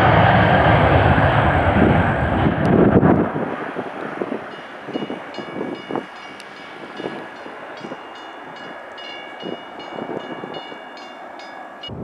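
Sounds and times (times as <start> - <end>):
jet engines roaring at takeoff: 0.0 - 12.0.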